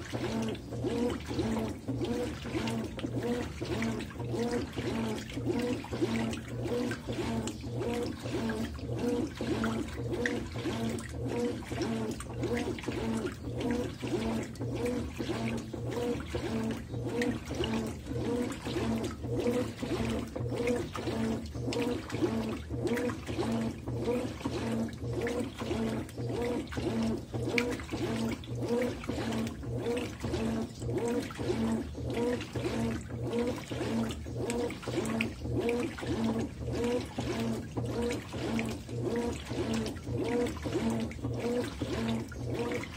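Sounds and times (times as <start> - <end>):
washing machine motor hum: 0.0 - 42.9
washing machine water sloshing: 0.0 - 42.9.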